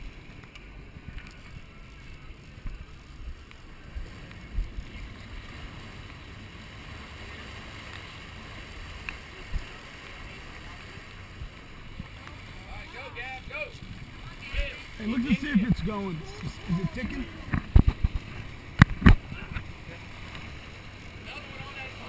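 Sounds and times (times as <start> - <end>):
churning wake water hiss: 0.0 - 22.0
wind buffeting microphone: 0.0 - 22.0.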